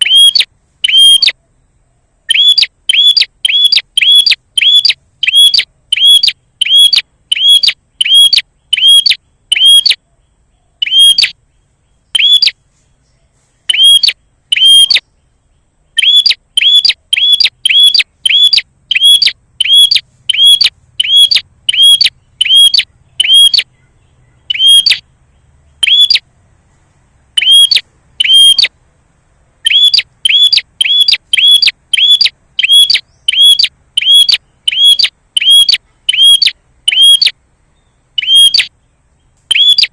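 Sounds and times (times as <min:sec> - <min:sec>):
bird chirping sharply: 0:00.0 - 0:01.4, 0:02.3 - 0:10.0, 0:10.8 - 0:15.2, 0:15.8 - 0:26.3, 0:27.4 - 0:28.8, 0:29.6 - 0:39.9.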